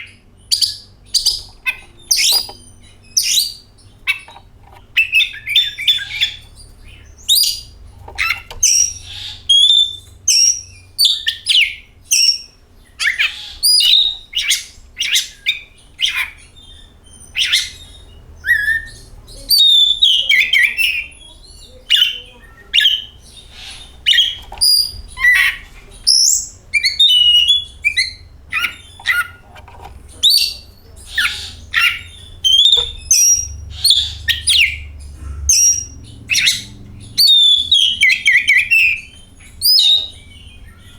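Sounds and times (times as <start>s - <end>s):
bird chirping and whistling: 0.0s - 4.4s, 5.0s - 29.5s, 30.2s - 40.9s
faint low hum: 0.0s - 40.9s.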